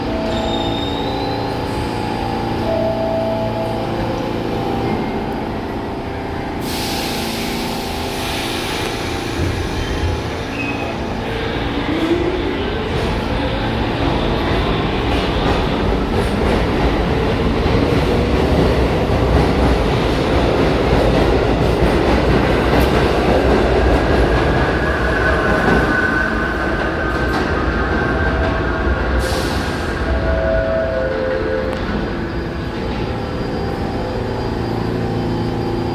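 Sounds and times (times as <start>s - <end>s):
subway train rumble and clatter: 0.0s - 35.9s.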